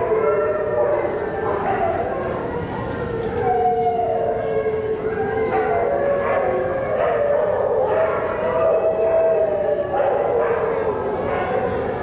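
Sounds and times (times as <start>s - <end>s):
dogs howling: 0.0s - 12.0s.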